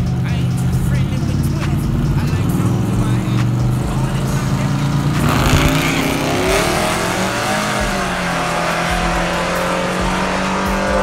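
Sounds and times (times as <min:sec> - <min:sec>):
truck engine accelerating hard: 0:00.0 - 0:11.0.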